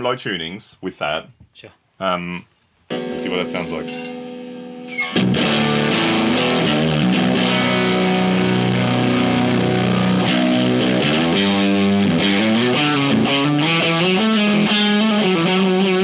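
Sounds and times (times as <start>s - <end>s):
distorted electric guitar: 2.9s - 16.0s.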